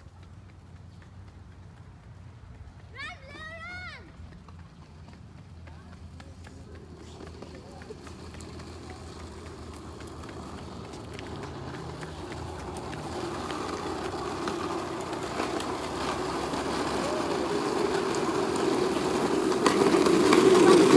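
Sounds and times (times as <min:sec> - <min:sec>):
plastic wheels rolling on concrete: 0:00.0 - 0:20.9.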